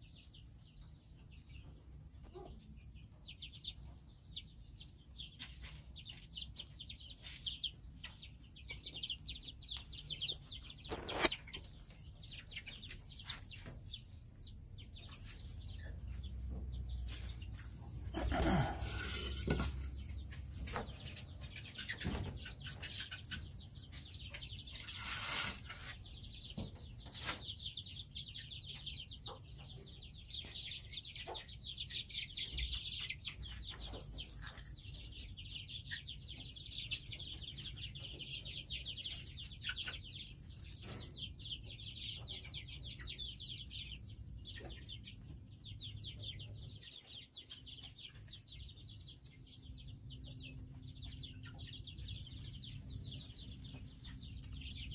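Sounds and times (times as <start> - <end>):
chicks peeping: 0.0 - 54.9.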